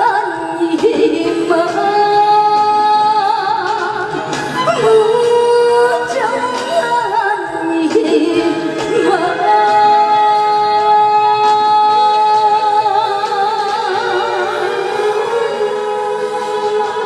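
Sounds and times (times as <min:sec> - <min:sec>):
band accompaniment: 0:00.1 - 0:17.0.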